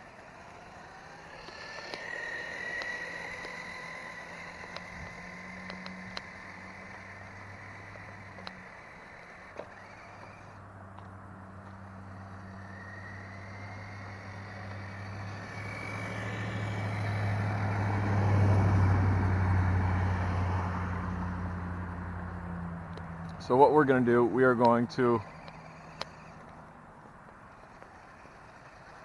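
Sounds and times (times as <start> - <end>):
vehicle passing: 0.0 - 29.0.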